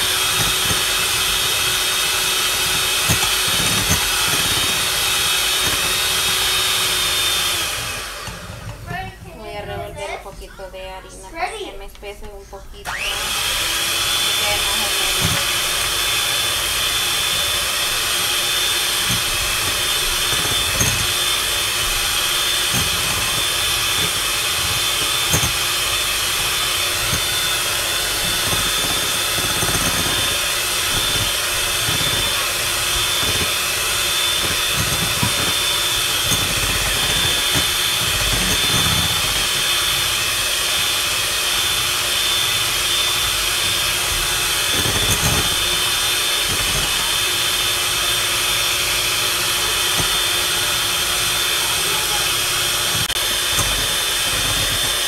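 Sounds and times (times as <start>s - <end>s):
electric hand mixer whining: 0.0s - 10.7s, 12.8s - 55.0s.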